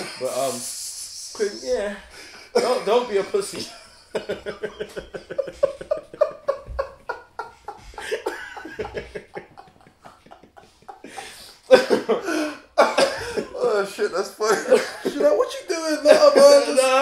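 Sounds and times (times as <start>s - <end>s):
men laughing hard: 2.2s - 17.0s.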